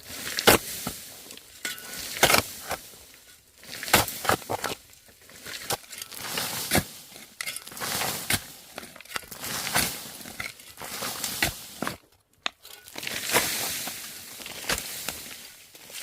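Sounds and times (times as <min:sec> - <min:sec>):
rustling and scraping: 0:00.1 - 0:16.0.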